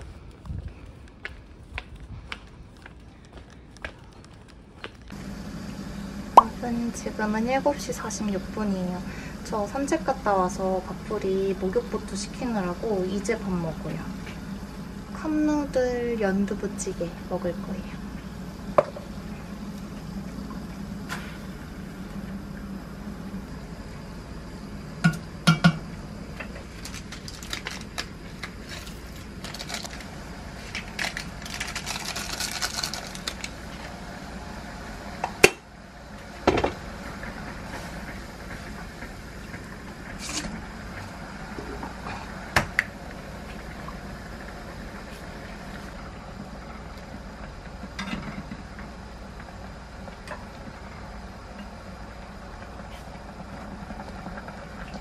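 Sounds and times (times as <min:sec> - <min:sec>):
gas burner: 0:04.2 - 0:55.0
water boiling: 0:05.1 - 0:55.0.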